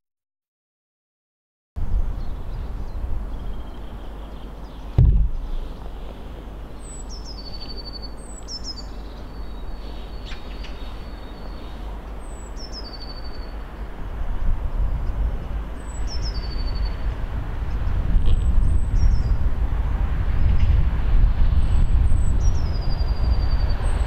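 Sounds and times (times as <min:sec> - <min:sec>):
songbird singing: 0:01.8 - 0:19.4, 0:21.4 - 0:24.0.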